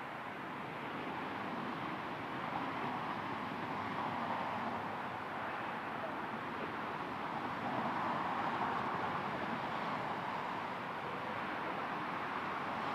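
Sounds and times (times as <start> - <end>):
distant freeway traffic: 0.0 - 12.9.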